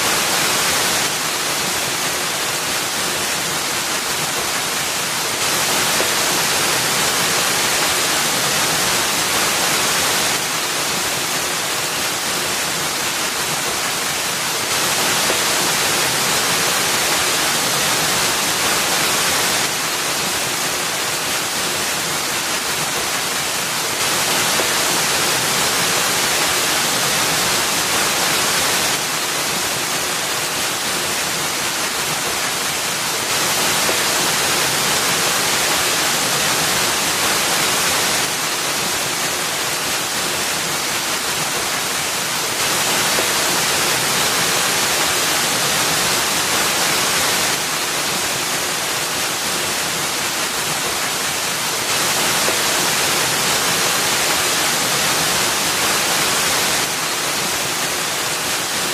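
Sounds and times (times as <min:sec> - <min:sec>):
small waterfall splashing into pool: 0:00.0 - 0:58.9.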